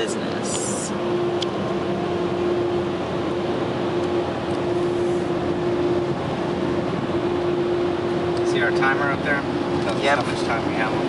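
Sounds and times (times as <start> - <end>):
blower dryers rushing air: 0.0 - 11.0
constant hum: 0.0 - 11.0.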